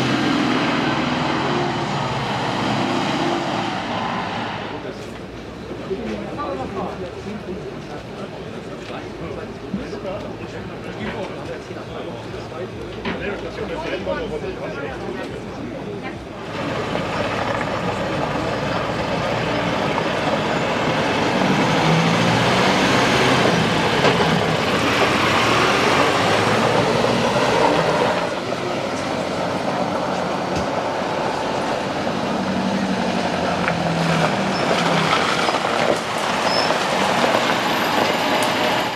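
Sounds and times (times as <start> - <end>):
diesel truck engine rumbling: 0.0 - 38.9.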